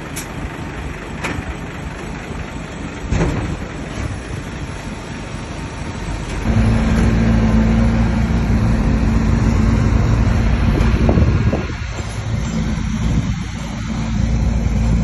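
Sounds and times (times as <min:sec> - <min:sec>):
bulldozer diesel engine under load: 0:00.0 - 0:15.0.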